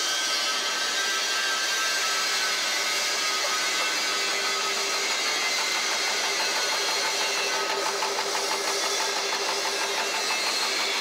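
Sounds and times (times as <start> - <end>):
machine whir with whining tones: 0.0 - 11.0.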